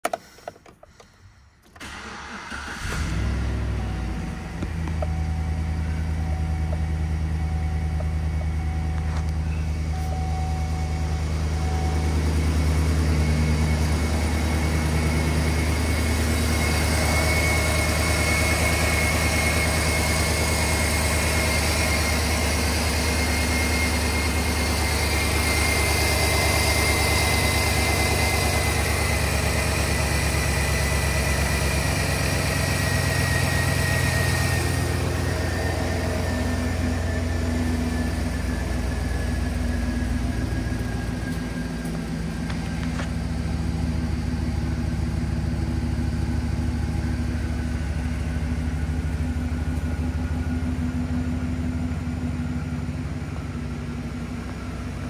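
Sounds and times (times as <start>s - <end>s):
engine starting and idling: 0.0s - 54.4s.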